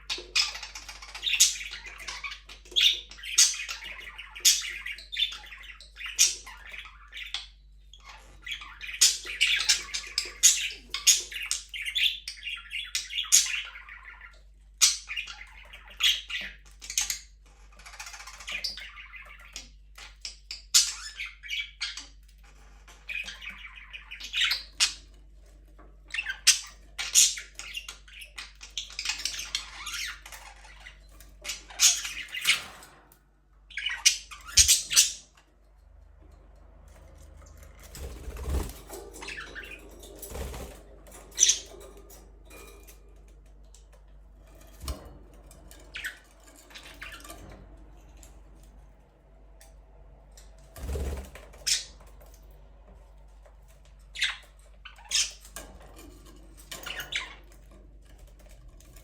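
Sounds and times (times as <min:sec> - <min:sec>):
budgerigars chirping and squawking: 0:00.0 - 0:35.6, 0:37.0 - 0:48.7, 0:50.4 - 0:59.0.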